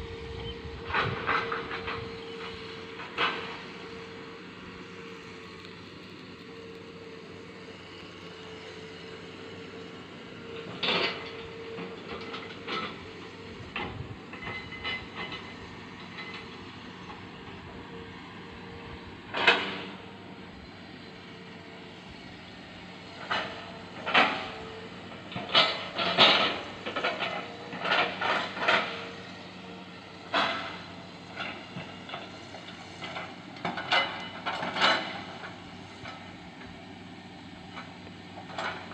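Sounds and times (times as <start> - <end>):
excavator engine hum: 0.0 - 38.9.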